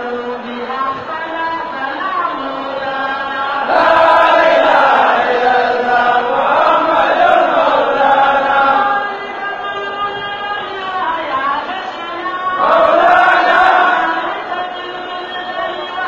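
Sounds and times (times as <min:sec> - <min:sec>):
huge crowd chanting: 0:00.0 - 0:16.0.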